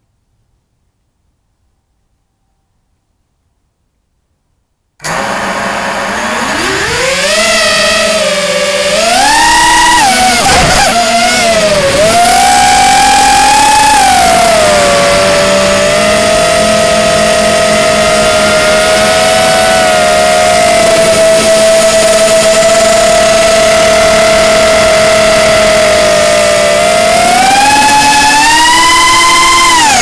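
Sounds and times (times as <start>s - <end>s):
drone motors whining: 5.0s - 30.0s.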